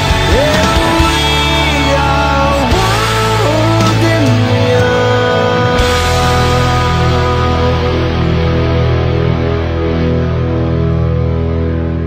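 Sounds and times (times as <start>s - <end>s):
sliding rock guitar lines: 0.0s - 12.0s
steady bass: 0.0s - 12.0s.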